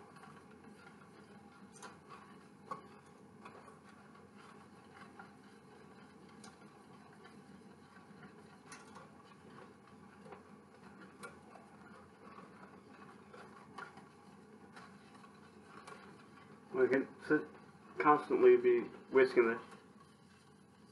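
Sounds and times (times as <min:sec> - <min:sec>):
whisk stirring in metal saucepan: 0:00.0 - 0:20.9.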